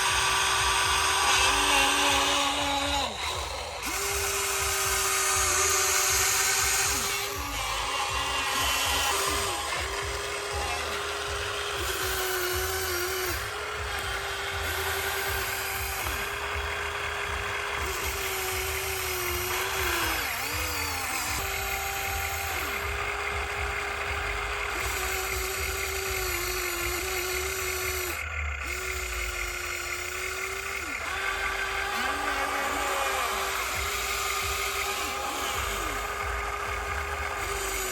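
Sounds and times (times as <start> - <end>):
electric motors whining: 0.0 - 37.9.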